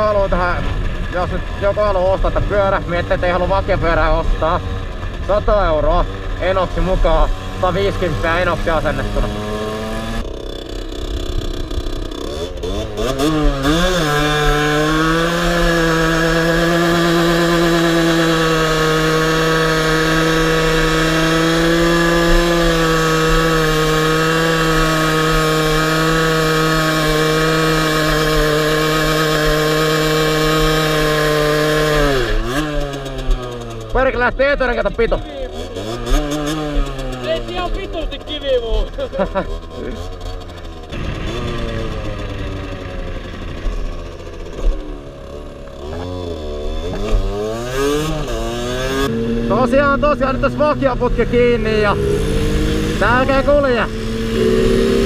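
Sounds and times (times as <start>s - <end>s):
moped engine revving high: 0.0s - 55.0s.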